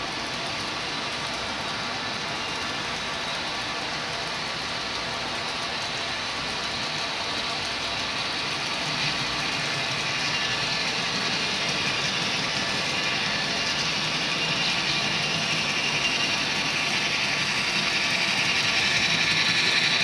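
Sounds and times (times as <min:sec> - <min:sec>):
model train wheels whirring and rattling: 0:00.0 - 0:20.0.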